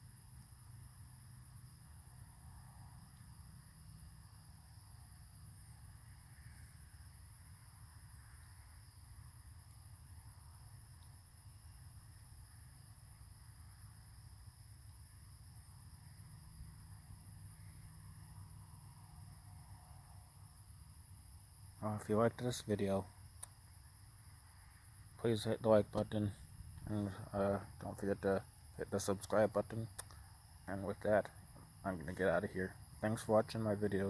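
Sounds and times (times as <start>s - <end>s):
crickets and insects trilling: 0.0s - 34.0s.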